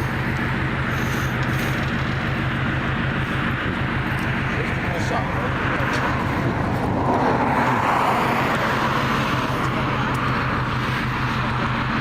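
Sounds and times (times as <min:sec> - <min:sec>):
road and street noise: 0:00.0 - 0:12.0
rush of noise: 0:00.0 - 0:12.0
vehicle engine humming: 0:00.0 - 0:12.0.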